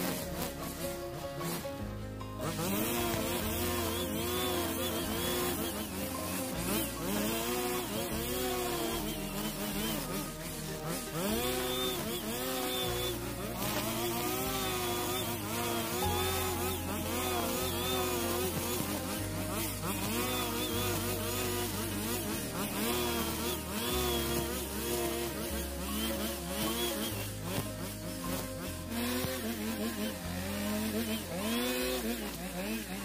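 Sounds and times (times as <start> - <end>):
background music with bass line: 0.0 - 33.0
brush cutter engine cutting grass: 0.0 - 33.0.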